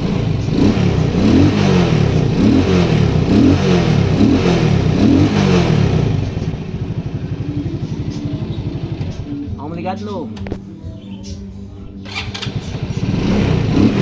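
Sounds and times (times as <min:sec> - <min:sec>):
motorcycle engine revving: 0:00.0 - 0:09.7, 0:12.0 - 0:14.0.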